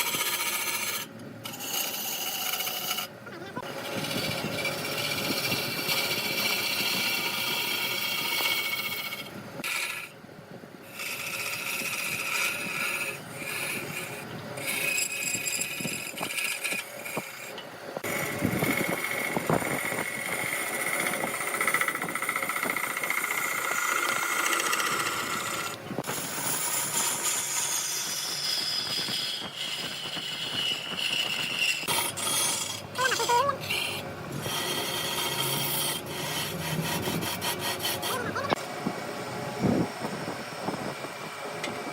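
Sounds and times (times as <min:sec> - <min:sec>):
wood lathe whining and scraping: 0:00.0 - 0:10.2, 0:10.8 - 0:41.9.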